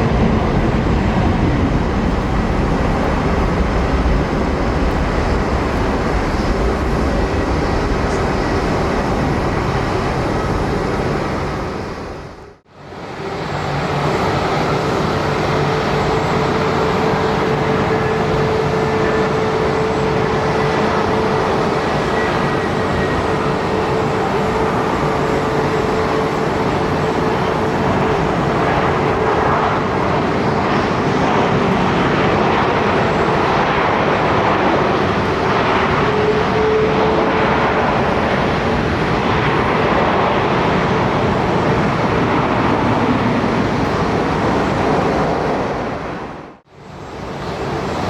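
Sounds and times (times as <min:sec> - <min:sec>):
faint steady engine whine: 0:00.0 - 0:48.0
jet engines running: 0:00.0 - 0:48.0.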